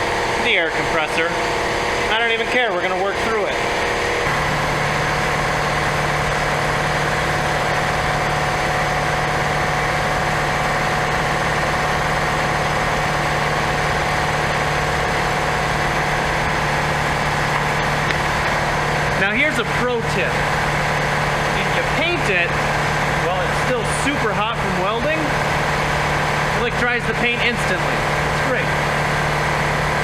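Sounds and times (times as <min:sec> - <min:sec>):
air compressor humming: 0:00.0 - 0:30.0.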